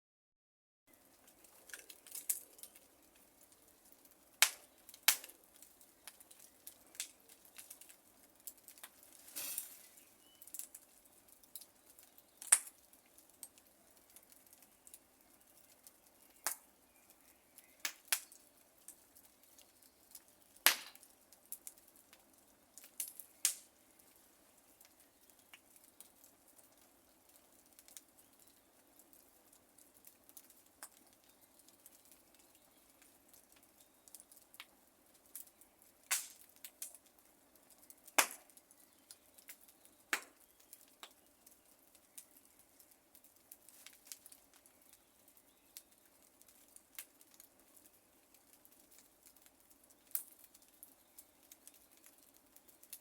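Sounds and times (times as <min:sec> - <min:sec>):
wood fire crackling: 0:00.9 - 0:53.0.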